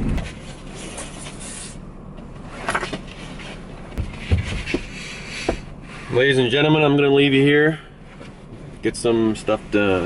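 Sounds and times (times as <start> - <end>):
vehicle cabin hum: 0.0 - 10.0.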